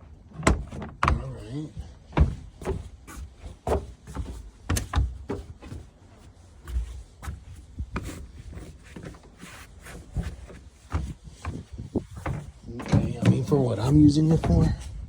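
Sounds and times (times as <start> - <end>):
rubber mat knocking and thumping: 0.2 - 15.0.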